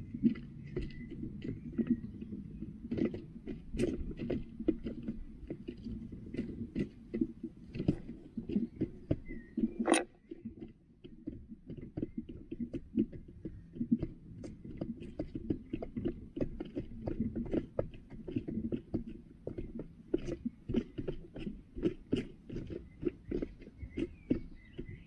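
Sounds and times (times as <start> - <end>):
hens pecking and scratching: 0.0 - 25.0.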